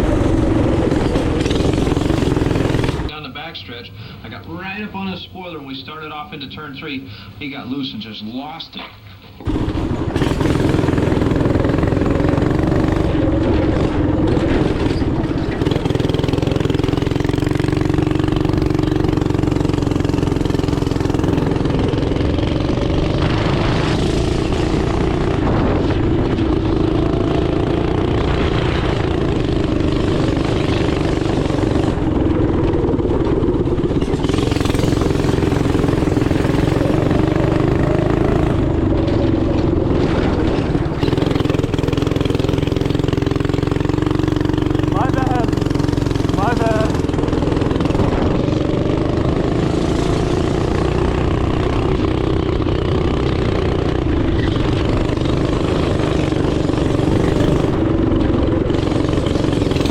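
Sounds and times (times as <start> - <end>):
small engine revving high: 0.0 - 3.1, 9.4 - 39.4, 40.0 - 59.9.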